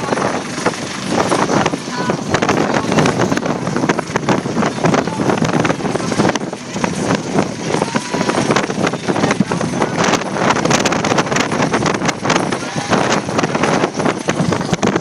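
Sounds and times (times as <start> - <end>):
helicopter rotor noise: 0.0 - 15.0
wind buffeting microphone: 0.0 - 15.0.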